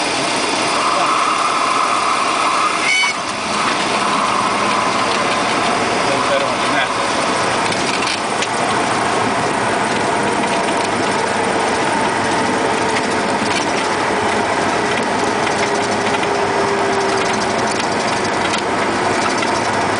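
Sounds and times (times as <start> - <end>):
loud steady rushing noise: 0.0 - 19.9
small airplane engine and propeller: 0.0 - 19.9.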